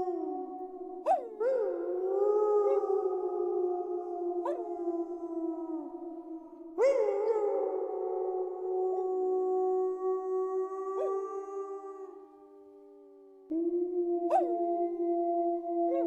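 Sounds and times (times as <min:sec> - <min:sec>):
wolves howling: 0:00.0 - 0:12.4, 0:13.8 - 0:16.0.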